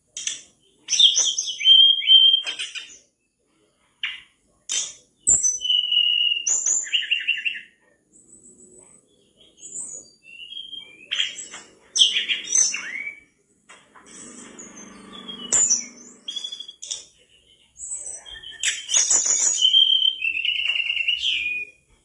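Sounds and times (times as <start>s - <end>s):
bird singing chirps and trills: 0.2s - 3.1s, 4.0s - 22.0s.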